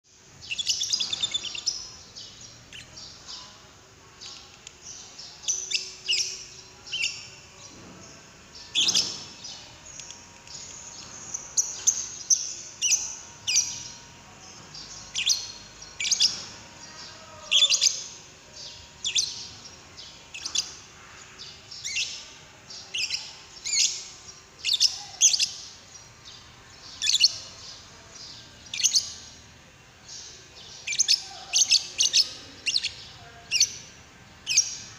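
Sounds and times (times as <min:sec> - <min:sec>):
bird chirping: 0:00.4 - 0:34.9.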